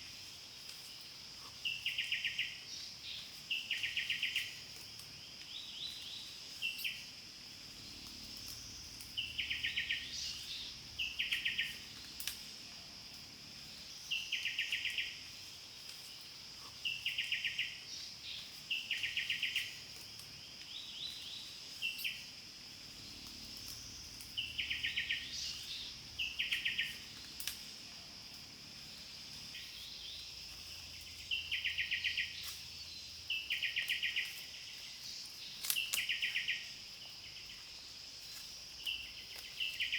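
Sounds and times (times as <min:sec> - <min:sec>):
loud trilled insect chirps: 0:05.5 - 0:39.9.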